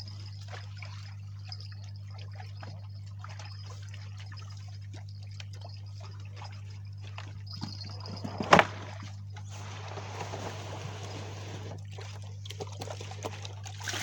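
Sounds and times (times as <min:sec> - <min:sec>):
water trickling and splashing: 0:00.0 - 0:14.0.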